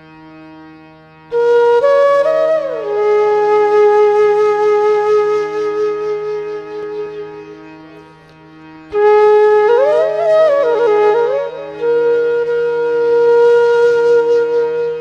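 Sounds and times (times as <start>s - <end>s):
flute melody: 1.3s - 8.2s, 8.9s - 15.0s.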